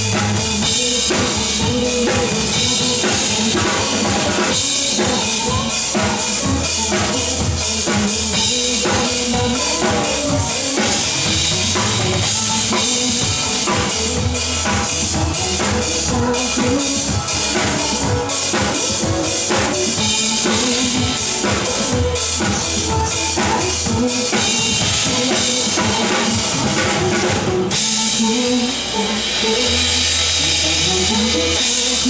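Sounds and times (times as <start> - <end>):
drum kit playing: 0.0 - 32.0
pop song backing track: 0.0 - 32.0.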